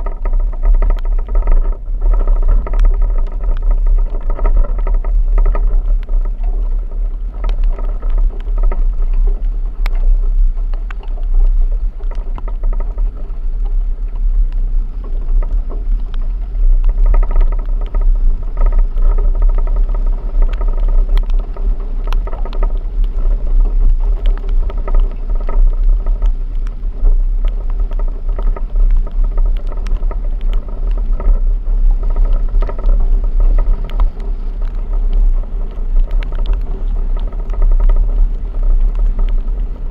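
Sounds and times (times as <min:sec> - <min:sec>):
heavy low rumble: 0:00.0 - 0:39.9
vehicle engine drone: 0:00.0 - 0:39.9.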